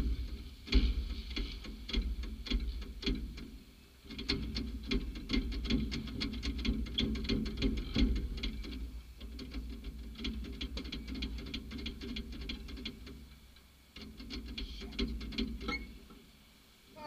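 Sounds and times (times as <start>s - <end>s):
rapid irregular clicking: 0.0s - 16.5s.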